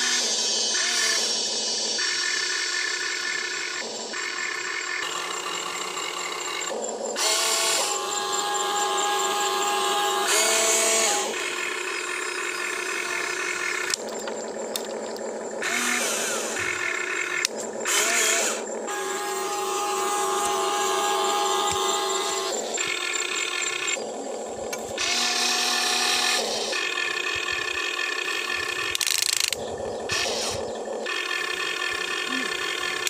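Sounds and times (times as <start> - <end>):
electric motors whining: 0.0 - 33.0.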